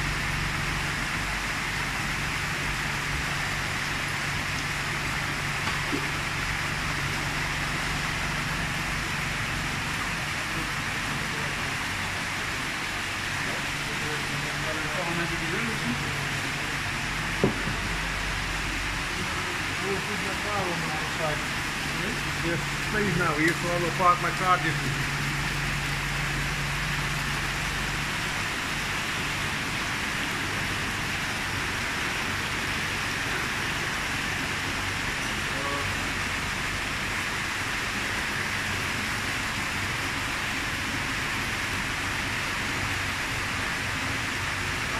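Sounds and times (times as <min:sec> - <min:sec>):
churning aerated water: 0:00.0 - 0:44.9
low steady hum: 0:00.0 - 0:44.9.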